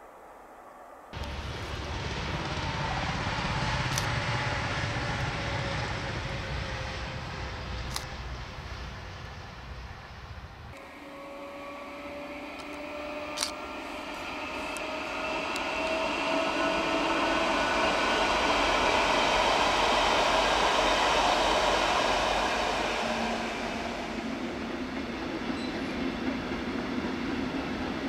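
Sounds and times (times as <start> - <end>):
electric train passing at speed: 0.0 - 28.0
freight train rumble: 0.1 - 28.0.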